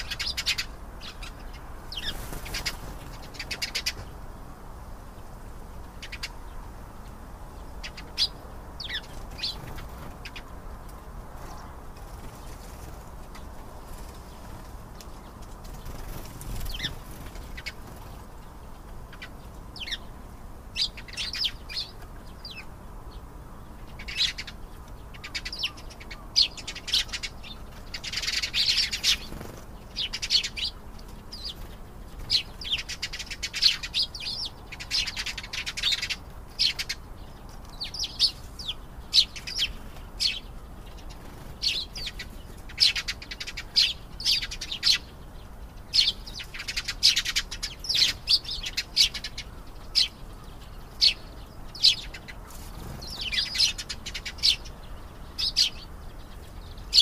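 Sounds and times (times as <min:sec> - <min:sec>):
canary singing: 0:00.0 - 0:04.1, 0:05.9 - 0:10.9, 0:15.2 - 0:57.0.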